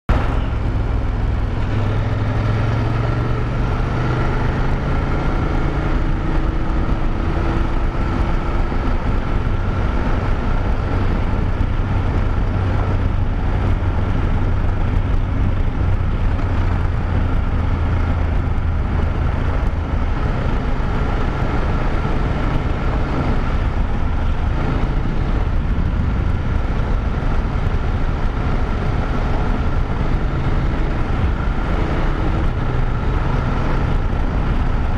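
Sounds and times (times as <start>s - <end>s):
motorcycle engine cruising: 0.1s - 34.9s
wind and road noise: 0.1s - 34.9s.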